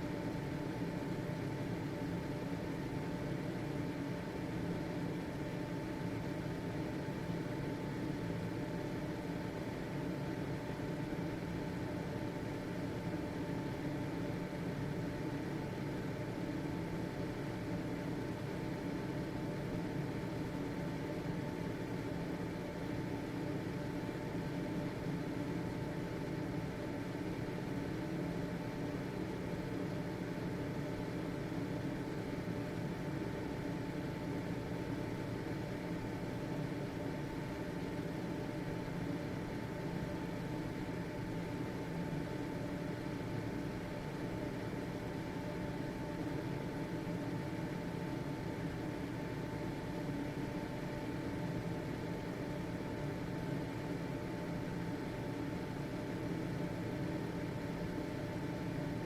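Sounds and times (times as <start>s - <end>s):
exhaust fan running: 0.0s - 59.0s.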